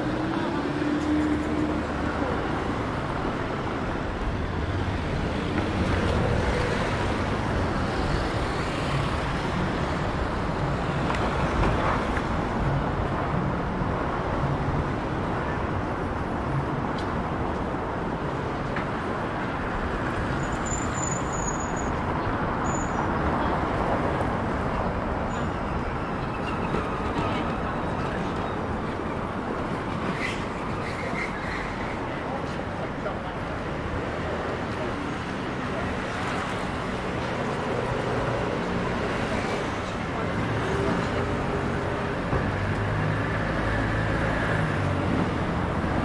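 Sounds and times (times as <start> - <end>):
city street traffic rumble: 0.0 - 46.0.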